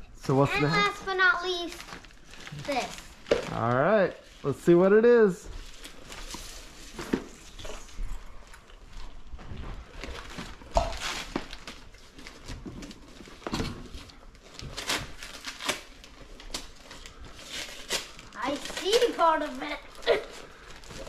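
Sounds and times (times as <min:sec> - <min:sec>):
gift wrapping rustling and crinkling: 0:00.3 - 0:21.0.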